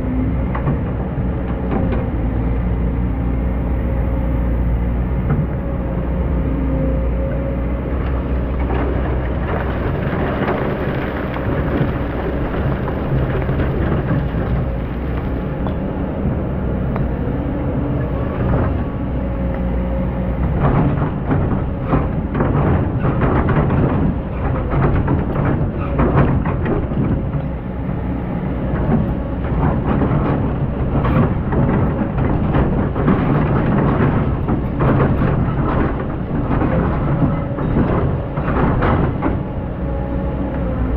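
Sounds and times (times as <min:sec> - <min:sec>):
diesel engine drone: 0:00.0 - 0:40.9.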